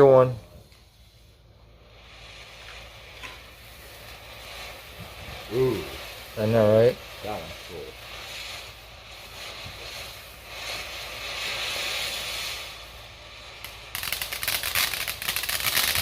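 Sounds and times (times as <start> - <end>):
firework crackling: 0.0 - 16.0
firework fountain hissing: 0.0 - 16.0.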